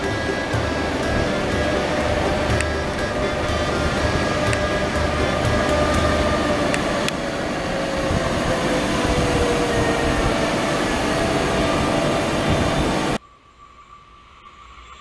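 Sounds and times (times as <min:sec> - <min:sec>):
train rumble: 0:00.0 - 0:13.2
electric whine falling in pitch: 0:00.0 - 0:15.0.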